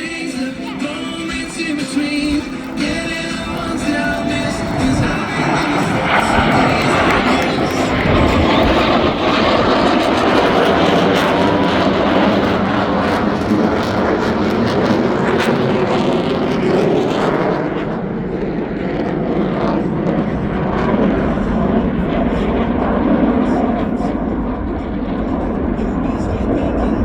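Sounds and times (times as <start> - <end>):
jets flying overhead: 0.0 - 27.0.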